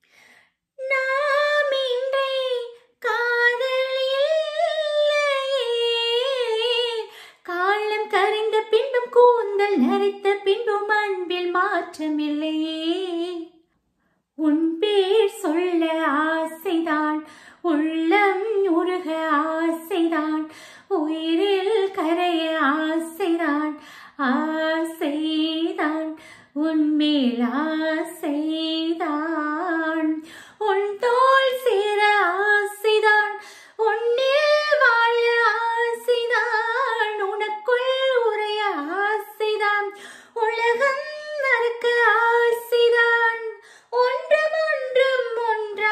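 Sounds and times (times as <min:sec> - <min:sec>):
woman singing unaccompanied: 0:00.8 - 0:13.5, 0:14.4 - 0:45.9.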